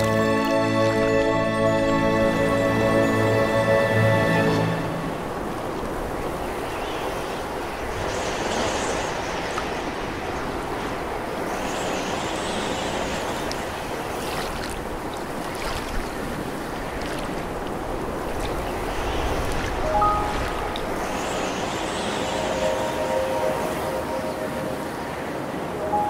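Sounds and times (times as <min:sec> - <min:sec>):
rushing water: 0:00.0 - 0:26.0
wind: 0:00.0 - 0:26.0.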